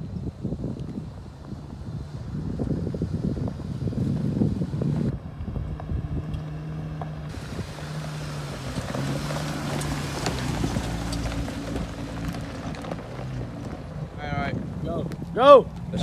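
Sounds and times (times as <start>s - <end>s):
wind noise on microphone: 0.0s - 16.0s
car engine running: 0.4s - 16.0s.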